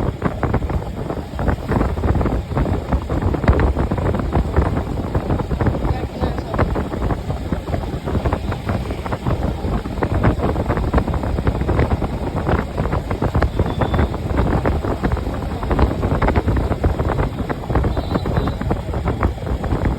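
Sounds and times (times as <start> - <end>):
moving car rumble: 0.0 - 19.9
wind buffeting microphone: 0.0 - 19.9.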